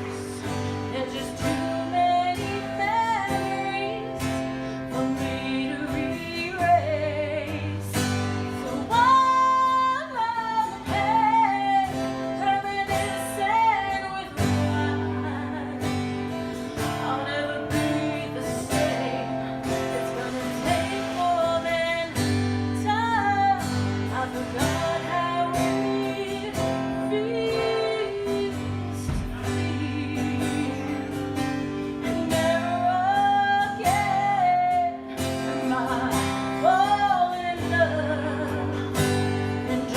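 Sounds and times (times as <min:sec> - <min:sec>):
guitar chords: 0:00.0 - 0:39.9
woman singing: 0:00.0 - 0:39.9.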